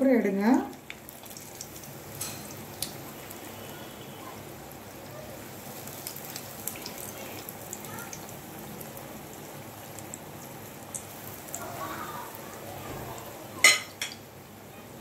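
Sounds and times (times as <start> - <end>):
deep-frying sizzle: 0.0 - 15.0
oil crackling and popping: 0.5 - 14.3.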